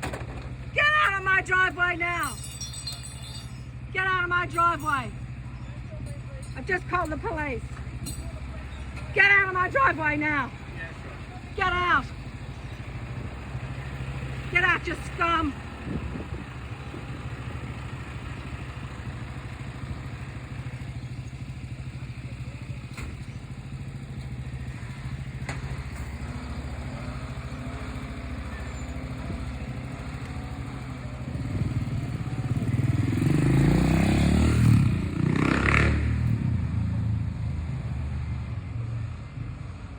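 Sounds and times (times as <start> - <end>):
truck engine idling and revving: 0.0 - 39.9.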